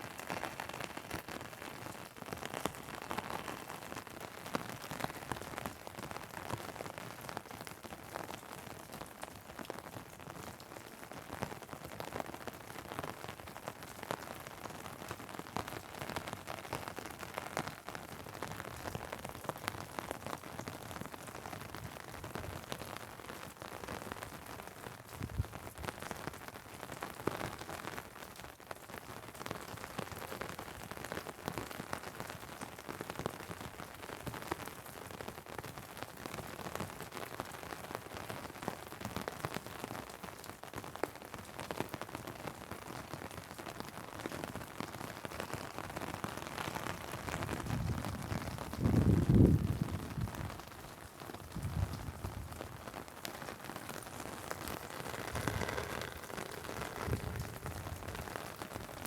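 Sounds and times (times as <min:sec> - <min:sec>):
rain on asphalt: 0:00.0 - 0:59.0
rain pattering on umbrella: 0:00.0 - 0:59.0.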